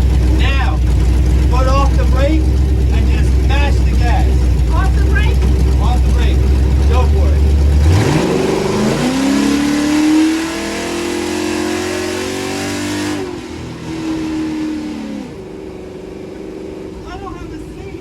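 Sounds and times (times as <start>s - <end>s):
truck engine revving high: 0.0s - 18.0s.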